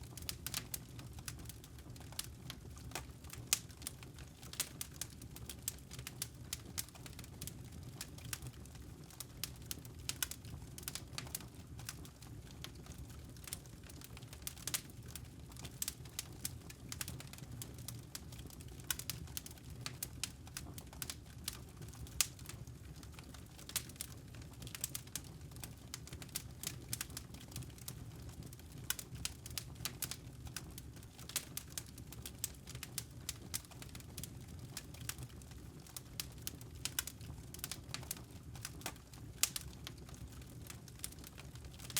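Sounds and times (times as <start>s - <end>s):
firewood crackling and popping: 0.0s - 41.9s
low rumble of flames: 0.0s - 41.9s.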